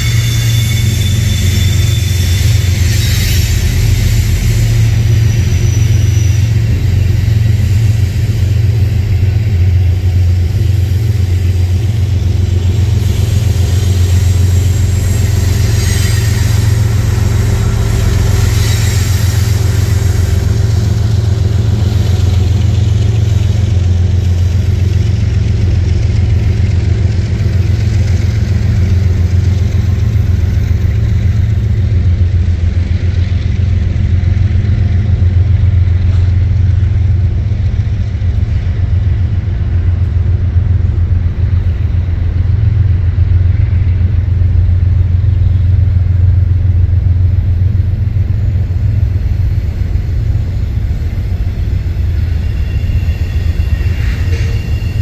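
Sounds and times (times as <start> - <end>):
diesel locomotive engine drone: 0.0 - 55.0
train rolling past: 0.0 - 55.0.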